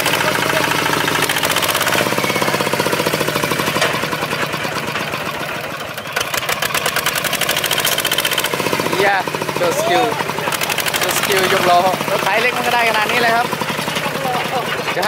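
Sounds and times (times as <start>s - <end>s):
tractor diesel engine chugging: 0.0s - 15.0s.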